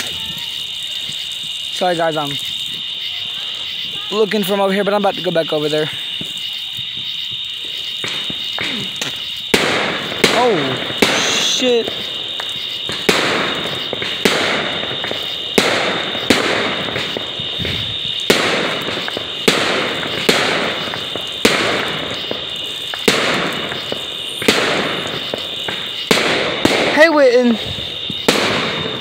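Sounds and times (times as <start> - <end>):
fireworks bangs with crackle: 0.0 - 29.0.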